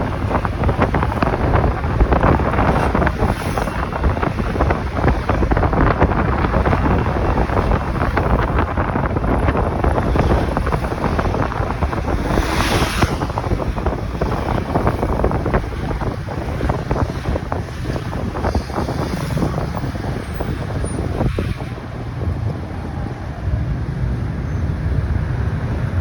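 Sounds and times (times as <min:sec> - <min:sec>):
road and engine noise: 0:00.0 - 0:26.0
wind buffeting microphone: 0:00.0 - 0:26.0.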